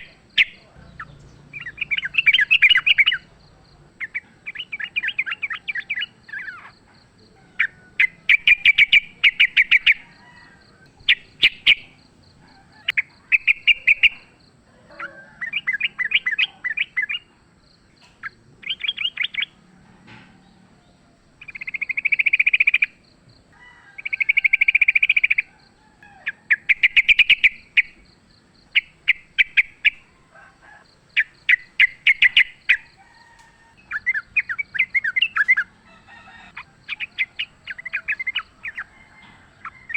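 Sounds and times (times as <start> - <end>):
birds singing in chattering bursts: 0.0 - 39.9.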